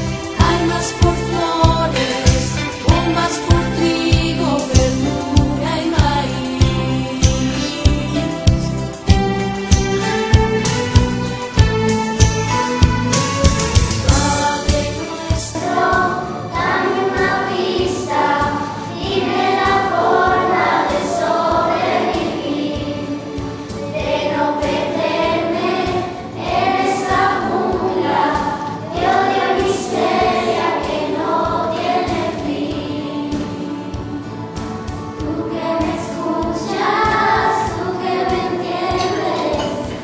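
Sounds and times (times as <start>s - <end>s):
voices singing in chorus: 0.0s - 8.5s, 14.0s - 40.0s
instrumental accompaniment: 0.0s - 40.0s.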